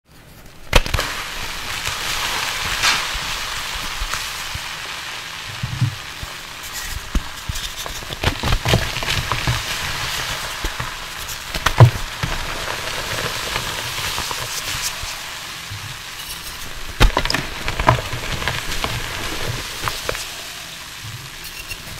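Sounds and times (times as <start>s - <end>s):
wet chalk sizzling and crunching: 0.2s - 21.9s.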